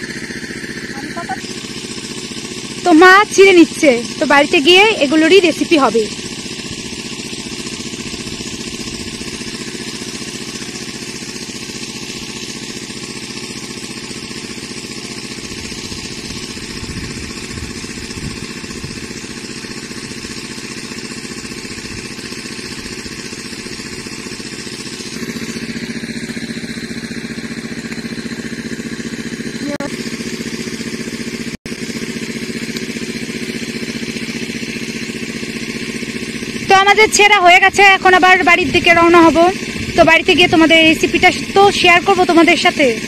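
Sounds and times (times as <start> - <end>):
water pump engine running: 0.0 - 43.0.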